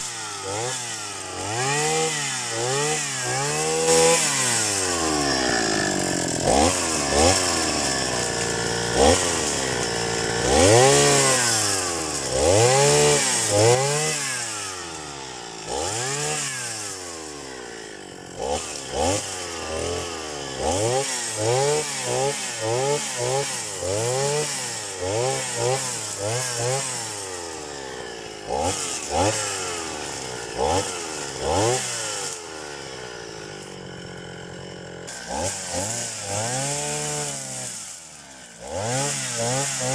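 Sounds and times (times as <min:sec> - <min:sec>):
grass cutter engine revving: 0:00.0 - 0:39.9.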